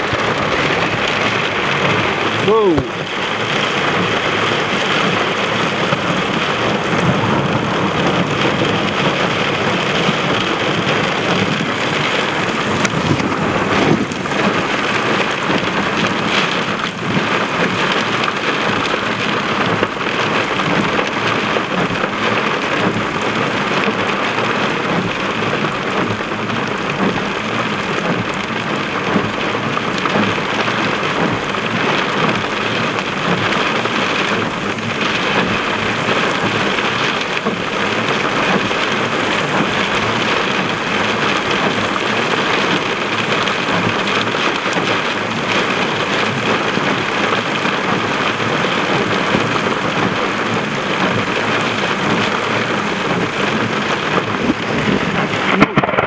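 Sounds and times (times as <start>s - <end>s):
heavy rain on a car: 0.0s - 56.0s.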